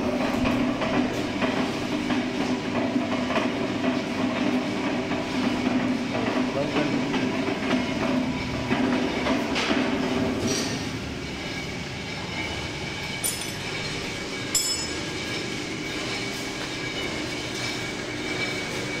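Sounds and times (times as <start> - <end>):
mixer motor running with whine: 0.0 - 19.0.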